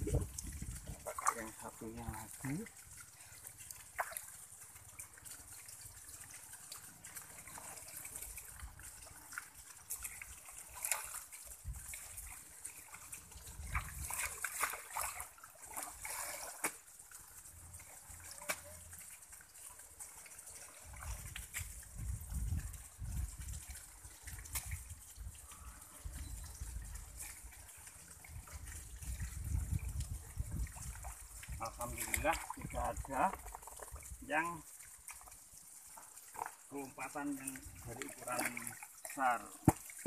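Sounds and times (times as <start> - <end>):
shallow water trickling and splashing: 0.0 - 40.0.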